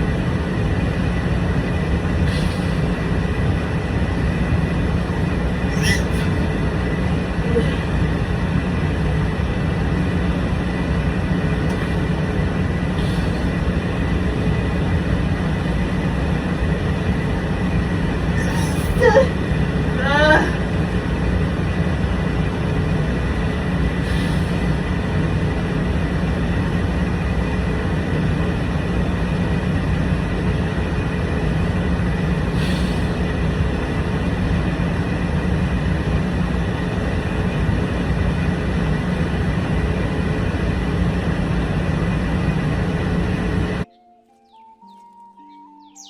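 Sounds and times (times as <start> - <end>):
constant low hum: 0.0 - 44.0.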